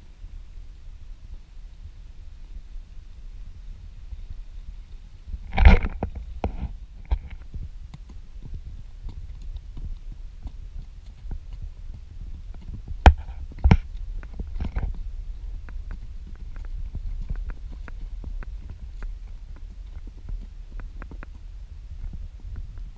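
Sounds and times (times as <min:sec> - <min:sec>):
wind and movement rumble: 0:00.0 - 0:22.9.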